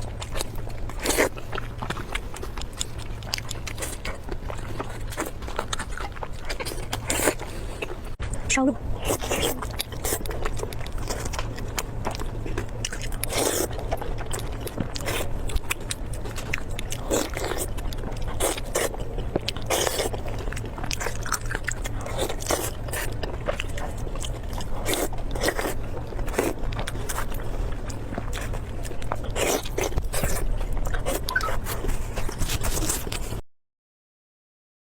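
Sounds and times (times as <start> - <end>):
steady low hum: 0.0 - 33.4
wet chewing and crunching: 0.0 - 33.4.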